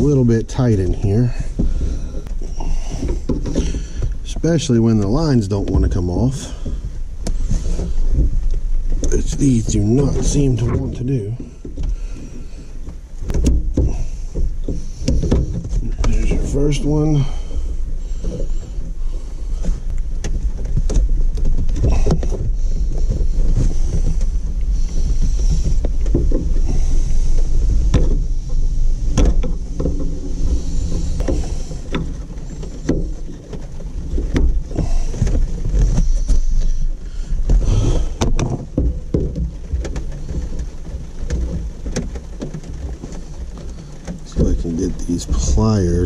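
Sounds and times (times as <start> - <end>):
rumbling microphone handling noise: 0.0 - 46.0.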